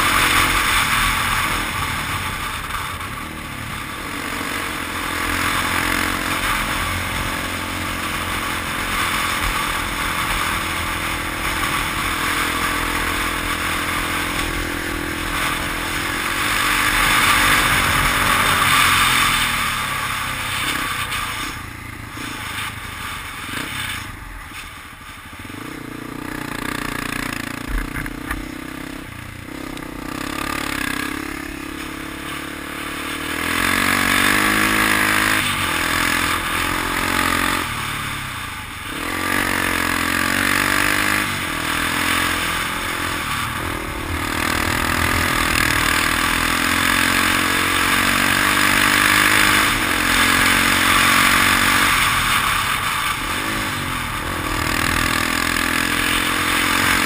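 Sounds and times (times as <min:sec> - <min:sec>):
off-road vehicle engine revving: 0:00.0 - 0:22.7, 0:25.4 - 0:57.0.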